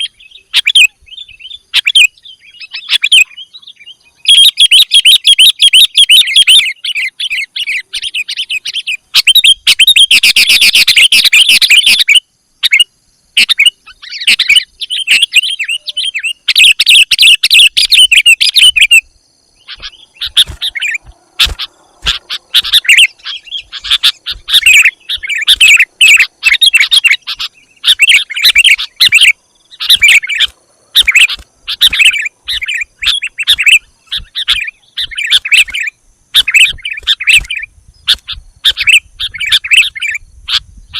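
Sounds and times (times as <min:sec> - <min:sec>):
bulbuls chattering calls: 0:00.0 - 0:12.8, 0:13.4 - 0:19.0, 0:19.6 - 0:40.9.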